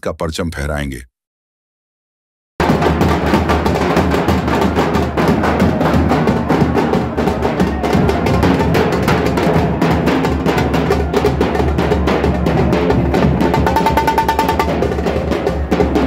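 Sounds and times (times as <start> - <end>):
large drums beaten fast: 2.6 - 16.0.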